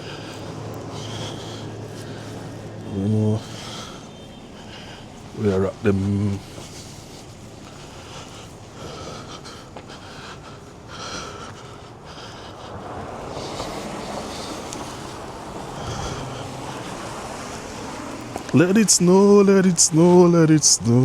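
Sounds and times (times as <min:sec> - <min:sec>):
traffic rushing: 0:00.0 - 0:21.0
wind: 0:00.0 - 0:21.0.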